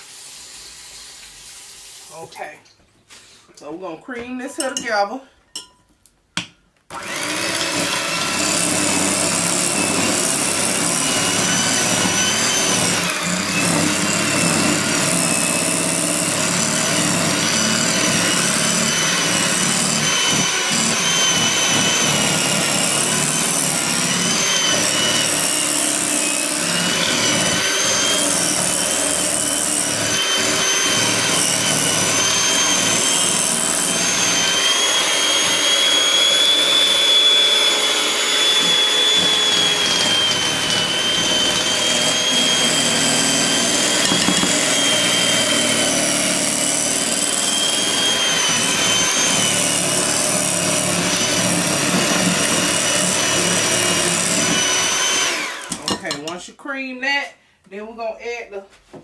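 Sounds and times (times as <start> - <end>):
electric mixer motor whining: 6.9 - 56.2.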